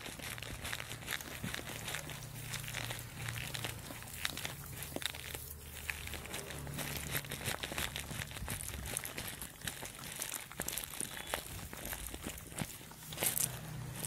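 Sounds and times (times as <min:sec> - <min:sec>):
animals chewing grass: 0:00.0 - 0:14.0.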